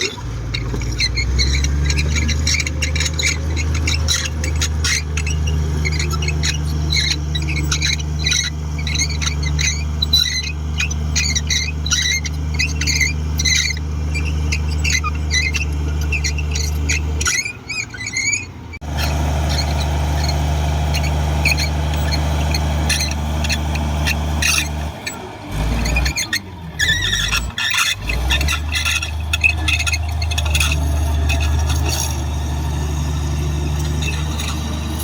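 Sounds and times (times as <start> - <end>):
bulldozer diesel engine running: 0.0 - 35.0
short high squeaks: 0.0 - 35.0.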